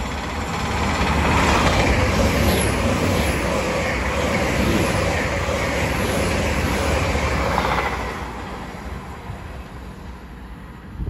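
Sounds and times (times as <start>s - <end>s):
passenger train rumbling past: 0.0s - 11.0s.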